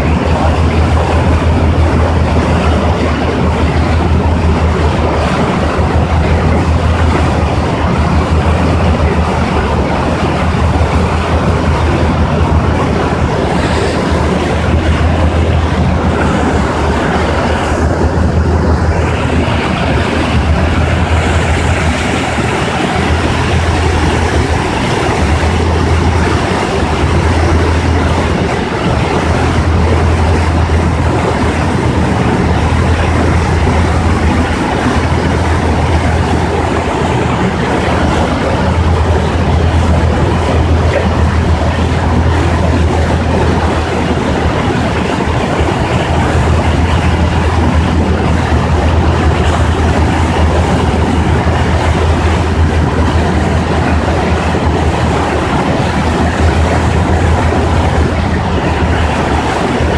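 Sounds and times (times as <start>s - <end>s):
rushing water: 0.0s - 59.9s
ship engine droning: 0.0s - 59.9s
wind noise: 0.0s - 59.9s.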